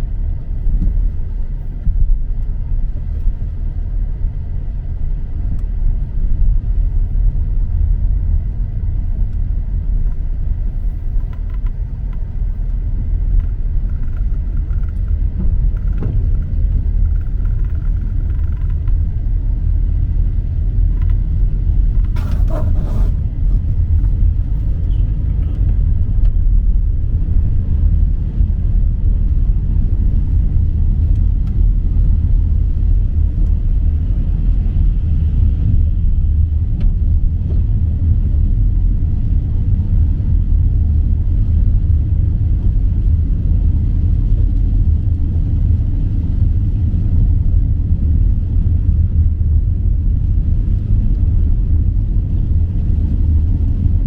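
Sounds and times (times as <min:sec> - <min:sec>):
vehicle rumbling in motion: 0:00.0 - 0:54.0.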